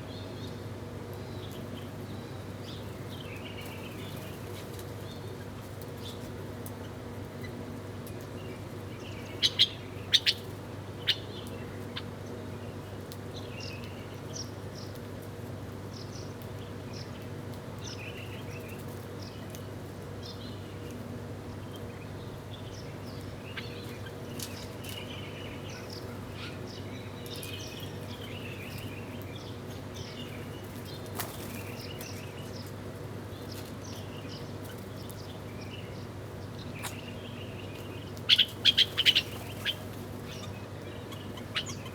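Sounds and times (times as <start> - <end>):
small birds chirping: 0.0 - 7.5, 8.3 - 15.0, 20.2 - 41.9
low background hum: 0.0 - 41.9.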